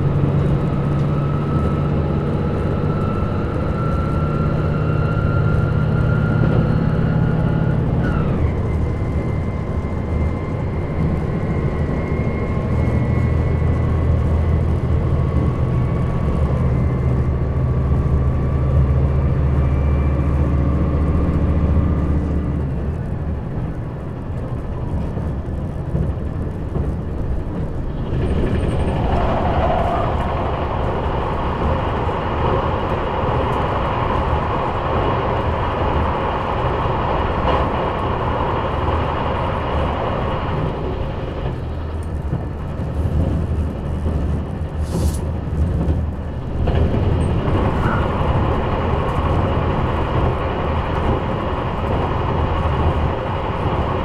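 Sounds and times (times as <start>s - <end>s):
diesel engine drone: 0.0s - 54.0s
tunnel rushing noise: 0.0s - 54.0s
wheel-on-rail rumble: 0.0s - 54.0s.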